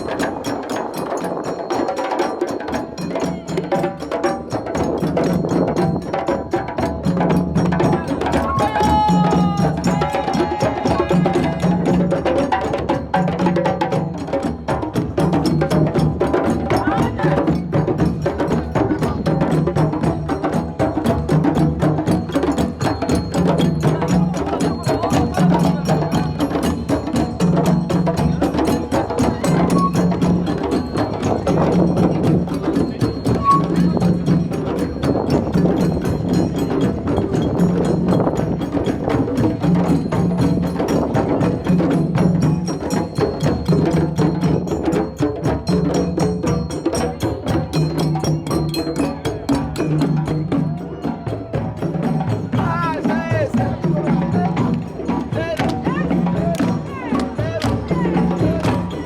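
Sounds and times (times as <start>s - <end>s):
hand drum ensemble rhythm: 0.0s - 59.0s.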